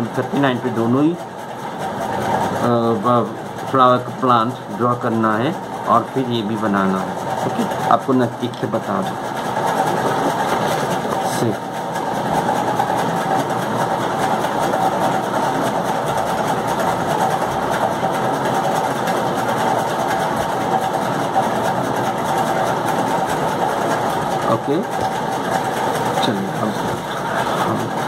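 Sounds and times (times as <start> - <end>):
machine whirring hum: 0.0 - 28.0.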